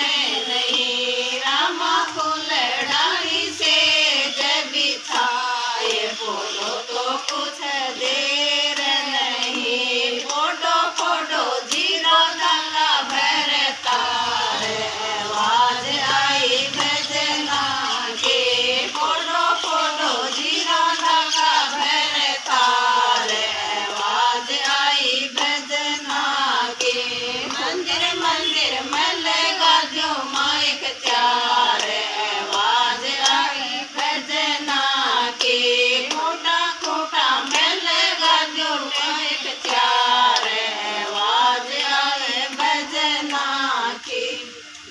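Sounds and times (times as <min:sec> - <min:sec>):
women singing in unison: 0:00.0 - 0:44.9.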